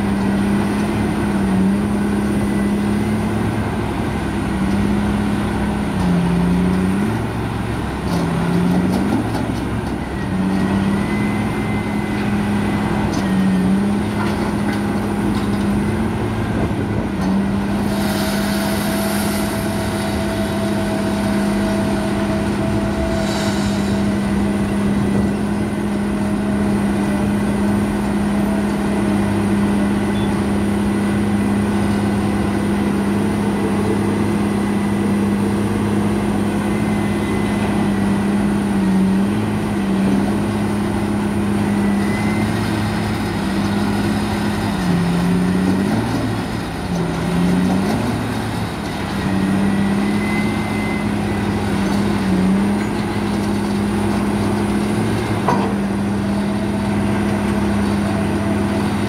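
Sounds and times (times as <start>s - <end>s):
heavy diesel machinery humming: 0.0s - 59.0s.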